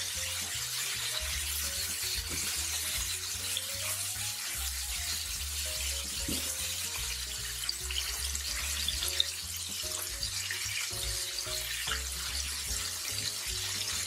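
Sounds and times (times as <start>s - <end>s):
meat sizzling in a frying pan: 0.0s - 14.0s
soft background music: 0.0s - 14.0s.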